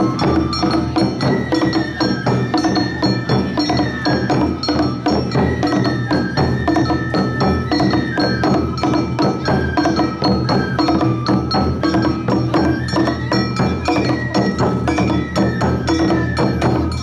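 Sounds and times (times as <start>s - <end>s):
bamboo flute sliding notes: 0.0s - 17.0s
taiko drums: 0.0s - 17.0s.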